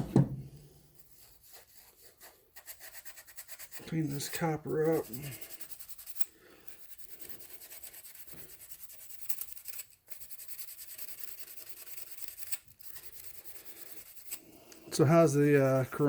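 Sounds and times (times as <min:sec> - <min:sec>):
abrasive scraping copper tubing: 0:00.9 - 0:16.0.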